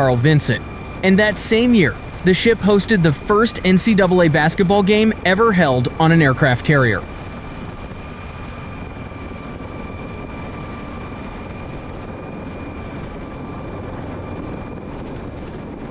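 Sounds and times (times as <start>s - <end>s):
jet engine rumble and whine: 0.0s - 15.9s.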